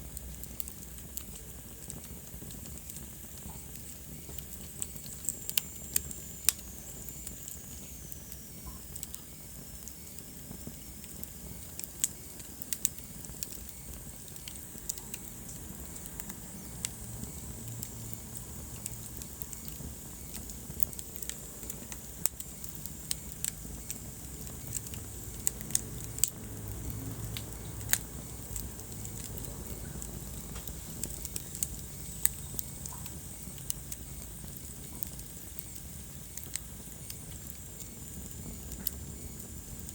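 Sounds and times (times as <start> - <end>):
fire burning in a fireplace: 0.0 - 39.9.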